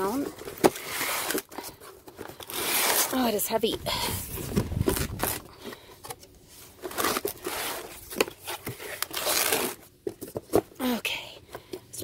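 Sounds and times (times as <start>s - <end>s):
cardboard and paper rustling: 0.0s - 11.8s.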